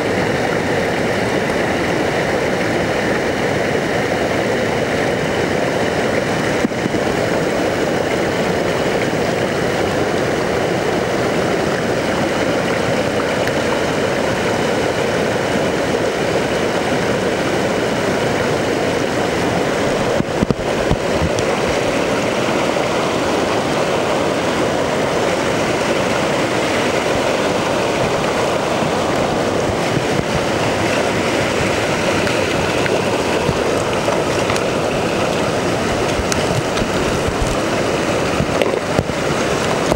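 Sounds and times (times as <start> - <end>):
floodwater rushing over rocks: 0.0 - 39.9.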